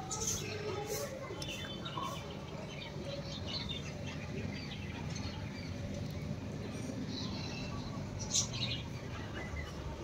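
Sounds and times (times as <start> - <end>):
outdoor background noise: 0.0 - 10.0
small birds chirping: 0.0 - 10.0.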